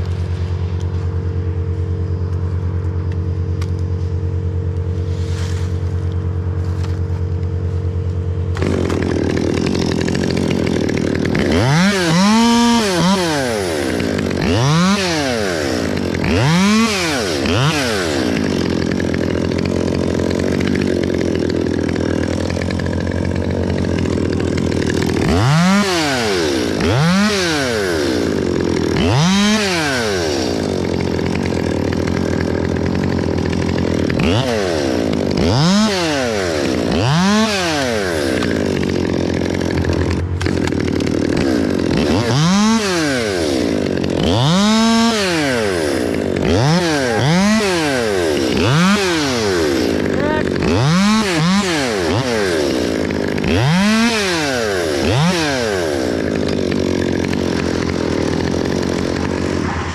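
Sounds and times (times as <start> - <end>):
steady engine drone: 0.0 - 56.5, 57.3 - 59.9
chainsaw revving: 0.0 - 59.9.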